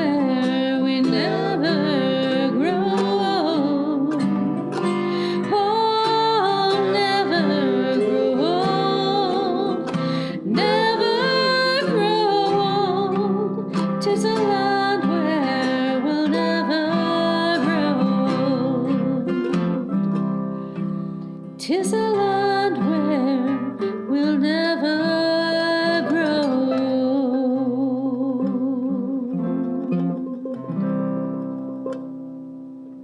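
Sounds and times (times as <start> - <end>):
person singing: 0.0 - 20.9, 21.6 - 30.7
plucked acoustic guitar: 0.0 - 33.0.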